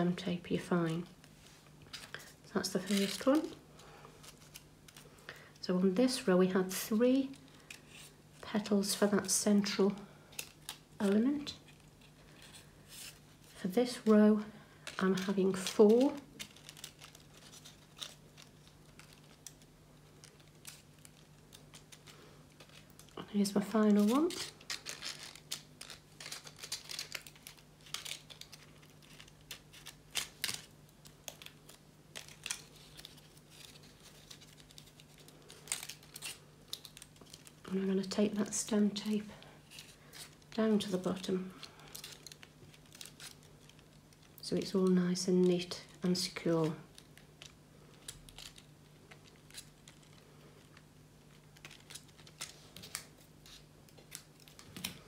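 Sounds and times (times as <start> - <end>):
faint steady hum: 0.0 - 55.0
paper rustling and crinkling: 0.8 - 5.6, 6.8 - 55.0.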